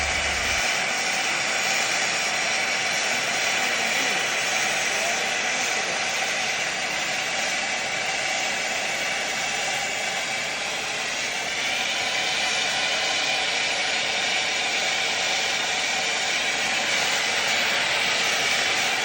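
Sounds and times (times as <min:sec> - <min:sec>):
torch flame hissing rush: 0:00.0 - 0:19.0.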